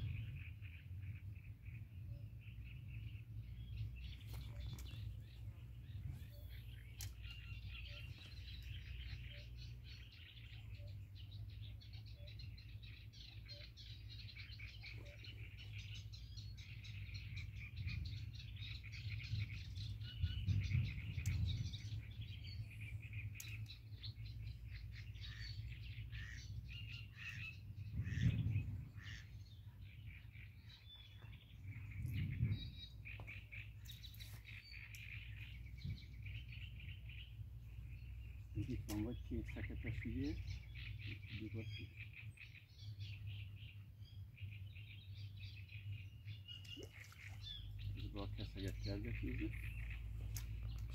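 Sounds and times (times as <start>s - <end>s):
small birds chirping: 0.0s - 50.9s
steady low rumble: 0.0s - 50.9s.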